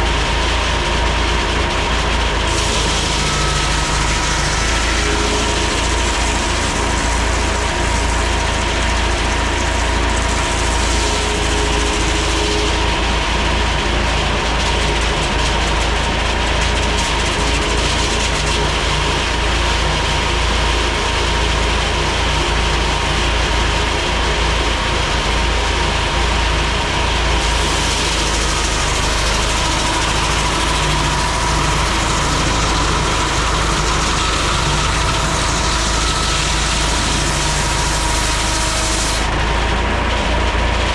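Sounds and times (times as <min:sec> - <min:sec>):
sawmill machinery whine: 0:00.0 - 0:40.9
tractor engine rumble: 0:00.0 - 0:40.9.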